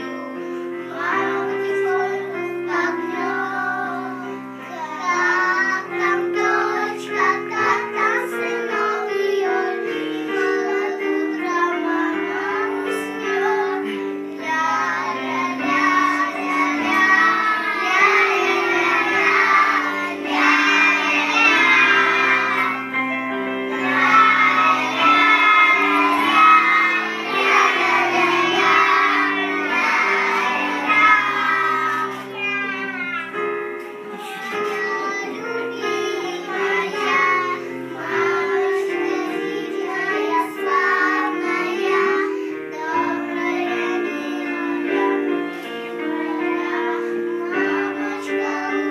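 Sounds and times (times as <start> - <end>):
children singing: 0.0 - 48.9
musical backing track: 0.0 - 48.9.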